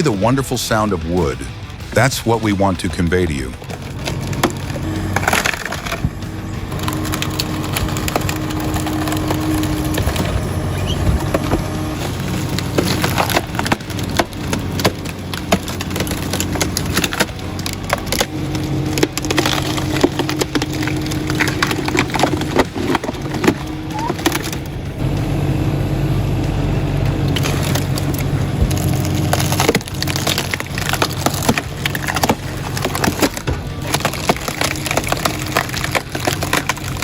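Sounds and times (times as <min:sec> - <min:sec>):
machine engine running: 0:00.0 - 0:37.0
wood cracking and splintering: 0:00.0 - 0:37.0.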